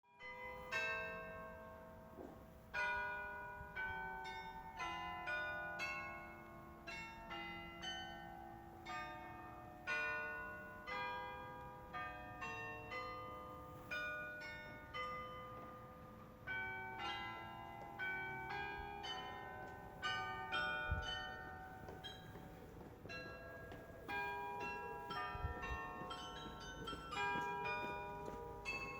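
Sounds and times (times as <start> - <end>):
carillon bells playing a melody: 2.8 - 28.9.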